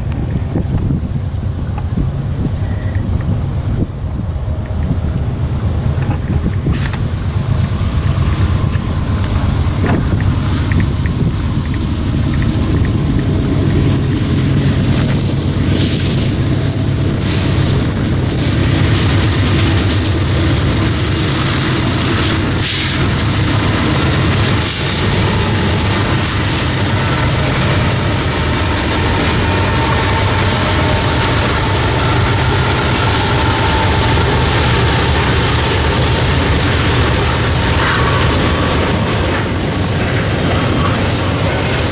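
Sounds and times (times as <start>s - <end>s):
freight train rumbling: 0.0s - 41.9s
wind buffeting microphone: 0.0s - 41.9s.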